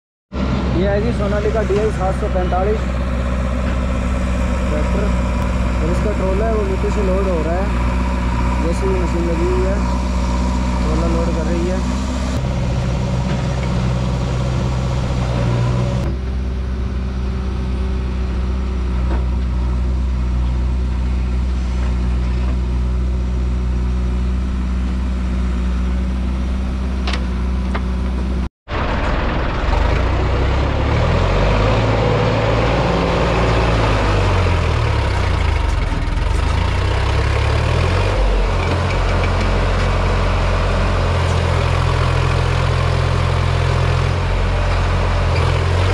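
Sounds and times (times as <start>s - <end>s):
diesel engines running: 0.3s - 45.9s.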